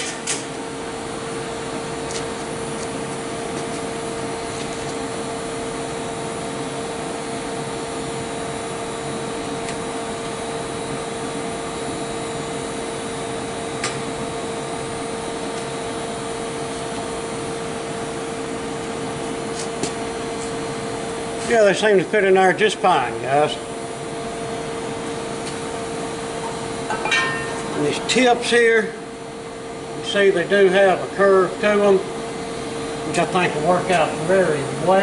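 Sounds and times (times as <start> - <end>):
fan-like machine hum: 0.0 - 35.0.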